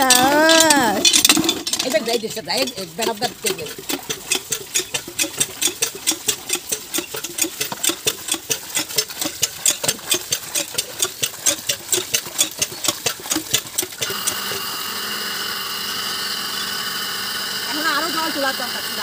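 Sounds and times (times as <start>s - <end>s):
electric water pump humming: 0.0s - 19.0s
hand pump clanking: 0.0s - 19.0s.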